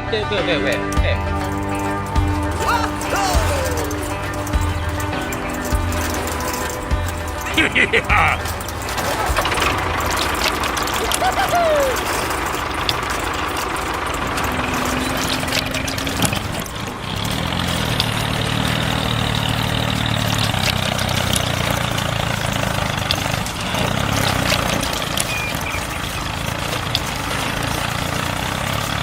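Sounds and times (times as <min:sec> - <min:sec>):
engine running: 0:01.1 - 0:29.0.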